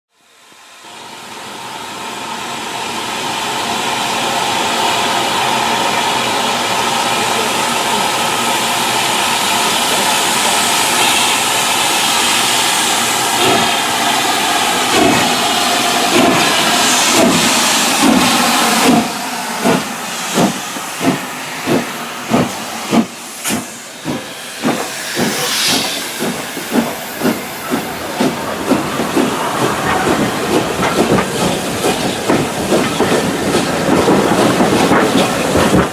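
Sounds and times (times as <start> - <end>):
steam hissing: 2.7 - 35.9.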